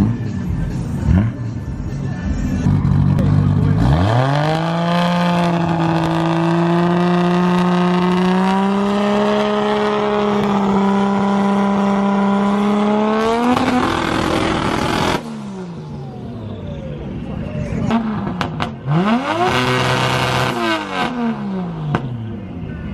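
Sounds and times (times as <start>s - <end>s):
car engine revving high: 2.6s - 17.3s, 17.9s - 22.4s.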